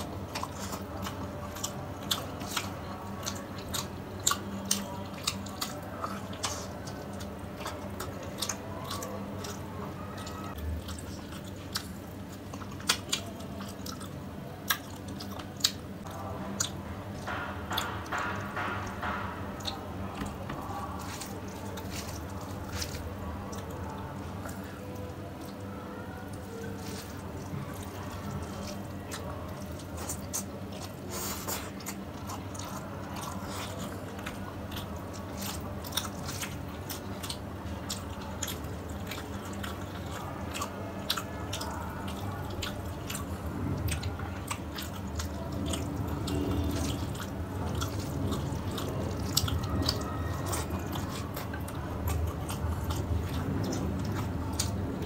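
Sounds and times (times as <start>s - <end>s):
chewing and lip-smacking: 0.0s - 55.0s
steady low hum: 0.0s - 55.0s.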